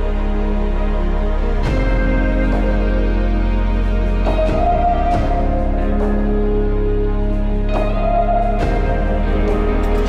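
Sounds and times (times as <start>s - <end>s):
music of sustained chords: 0.0s - 10.0s.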